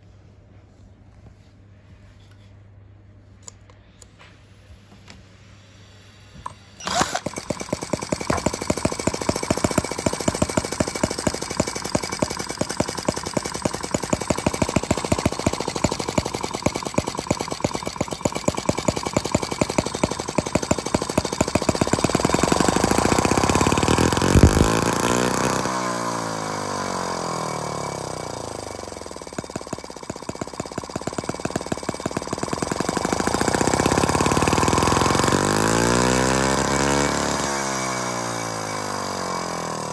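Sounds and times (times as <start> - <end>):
small model engine running: 6.8 - 39.9.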